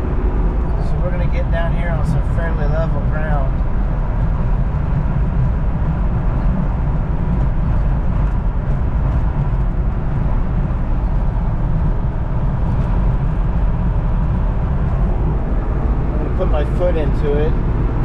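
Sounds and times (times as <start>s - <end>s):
car engine: 0.0s - 18.0s
wind noise: 0.0s - 18.0s.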